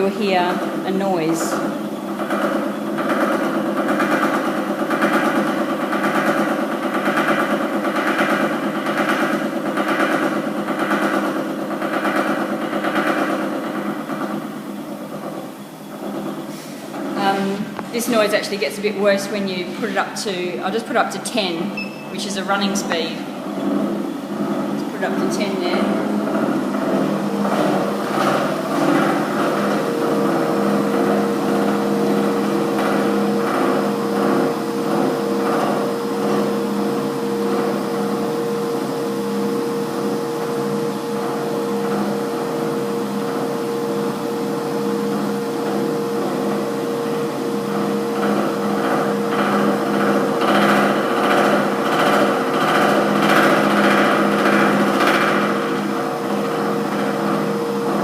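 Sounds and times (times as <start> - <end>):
treadmill knocking: 0.0 - 58.0
treadmill motor hum: 0.0 - 58.0.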